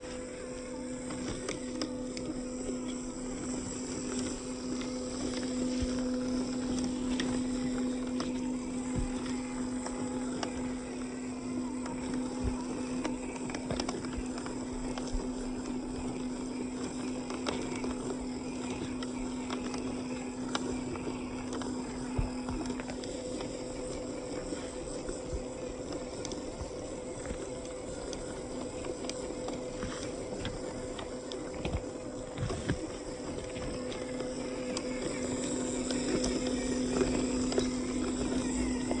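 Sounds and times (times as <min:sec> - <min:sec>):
small electric motor humming: 0:00.0 - 0:39.0.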